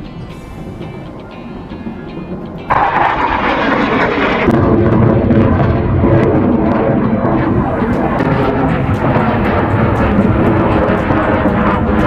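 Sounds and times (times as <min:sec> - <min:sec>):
jet engine flying overhead: 0:00.0 - 0:12.0.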